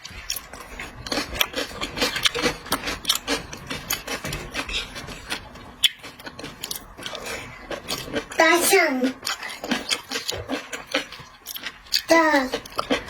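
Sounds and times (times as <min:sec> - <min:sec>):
crackling chewing sounds: 0:00.0 - 0:13.0.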